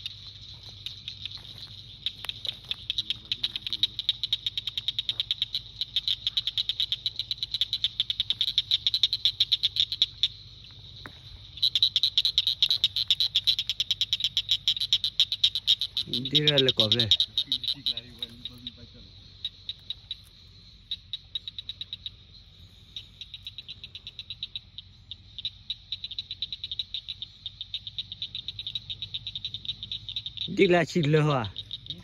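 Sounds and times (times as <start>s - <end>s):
frog clicking call: 0.0s - 32.0s.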